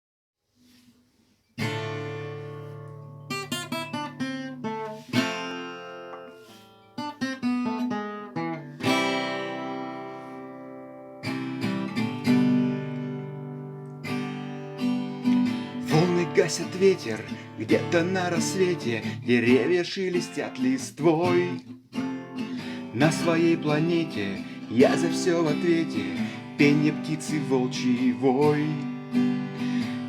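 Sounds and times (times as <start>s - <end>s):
acoustic guitar strumming: 1.6s - 30.0s.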